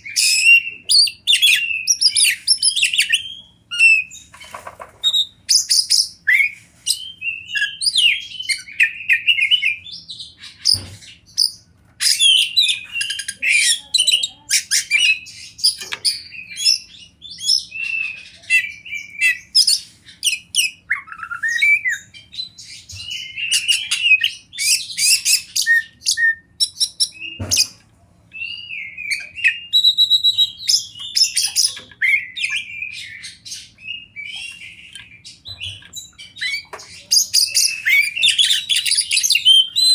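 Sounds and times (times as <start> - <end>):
songbird singing whistles and trills: 0.0 - 4.3, 5.0 - 39.9.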